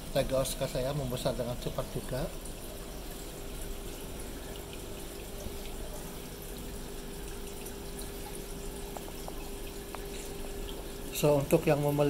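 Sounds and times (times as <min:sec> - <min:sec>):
aquarium bubbling water: 0:00.0 - 0:12.0.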